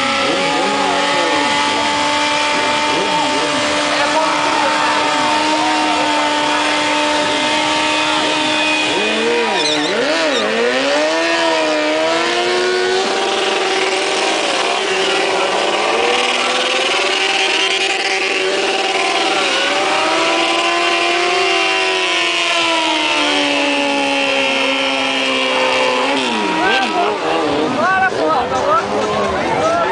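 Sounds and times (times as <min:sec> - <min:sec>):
motorcycle engines revving: 0:00.0 - 0:29.9.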